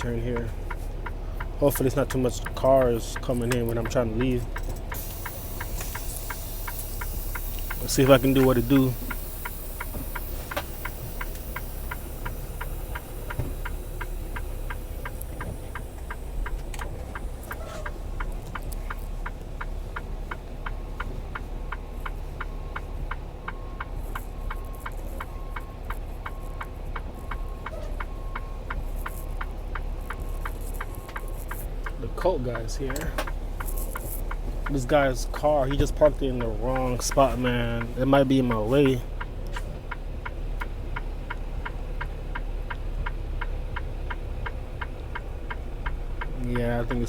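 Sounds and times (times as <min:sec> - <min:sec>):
idling engine hum: 0:00.0 - 0:47.0
turn signal ticking: 0:00.0 - 0:47.0.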